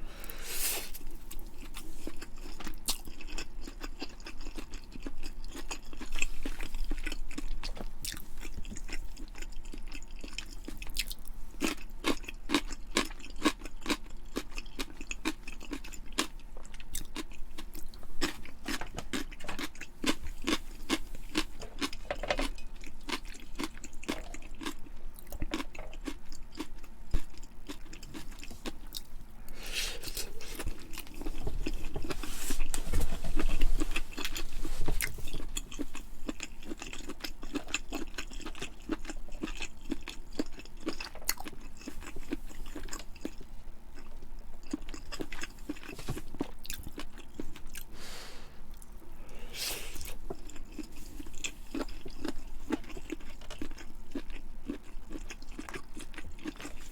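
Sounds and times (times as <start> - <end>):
person chewing crunchy food: 0.0 - 56.9.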